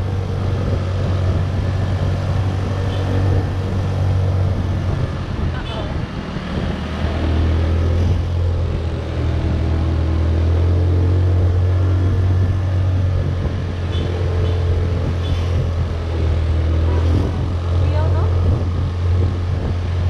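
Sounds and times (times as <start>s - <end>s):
motorbike engine drone: 0.0s - 20.0s.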